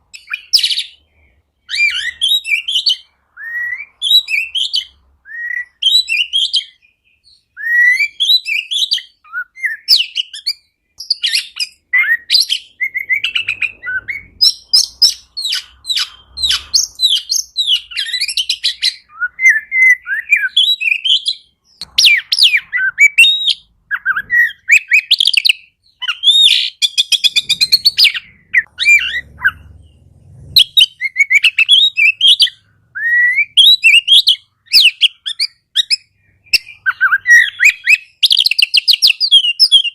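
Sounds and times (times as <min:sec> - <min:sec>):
bird singing varied whistles: 0:00.1 - 0:39.9.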